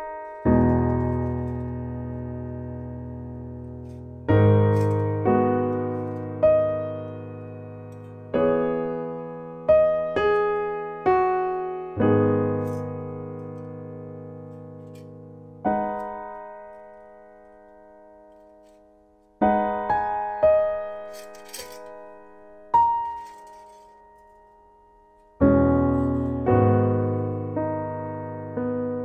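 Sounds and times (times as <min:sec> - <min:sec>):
slow solo piano music: 0:00.0 - 0:29.0.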